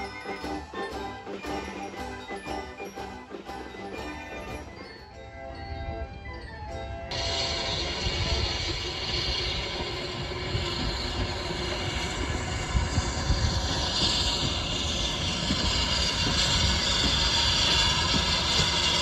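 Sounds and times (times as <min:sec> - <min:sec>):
steam locomotive running: 0:00.0 - 0:19.0.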